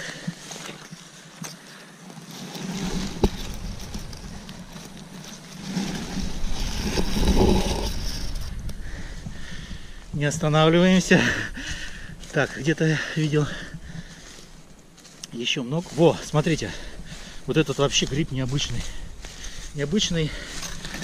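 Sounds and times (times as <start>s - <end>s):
footsteps through wet moss: 0.0s - 21.0s.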